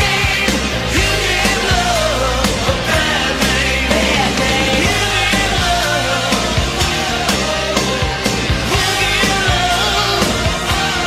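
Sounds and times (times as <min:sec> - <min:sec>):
rock music with singing: 0:00.0 - 0:11.0
steady drum beat: 0:00.0 - 0:11.0.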